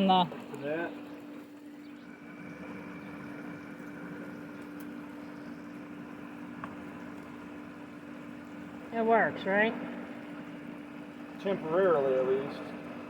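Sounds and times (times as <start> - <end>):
pool pump motor humming: 0.0 - 13.0.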